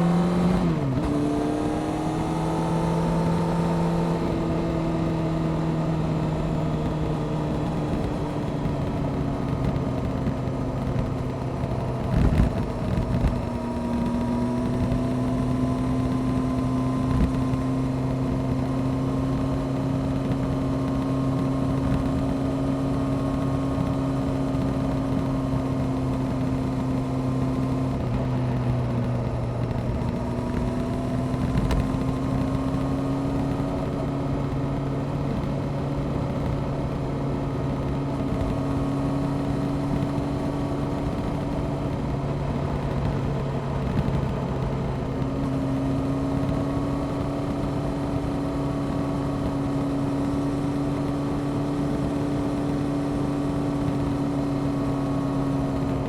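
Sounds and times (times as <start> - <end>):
motorcycle engine cruising: 0.0 - 56.0
road noise: 0.0 - 56.0
rushing wind: 0.0 - 56.0.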